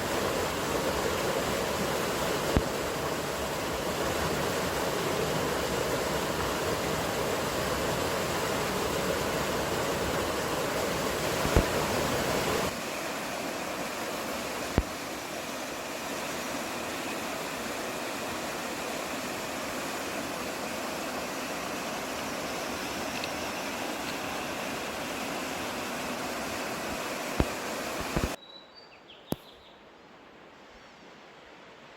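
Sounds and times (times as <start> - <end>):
rushing wash of noise: 0.0 - 28.4.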